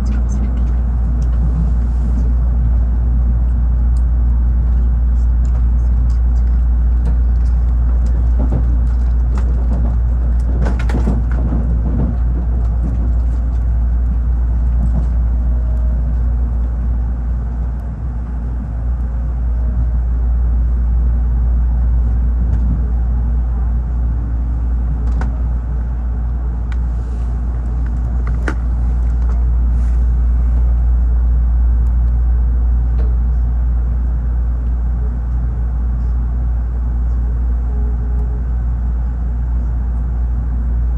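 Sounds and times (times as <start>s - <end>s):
train rumbling inside carriage: 0.0s - 40.9s.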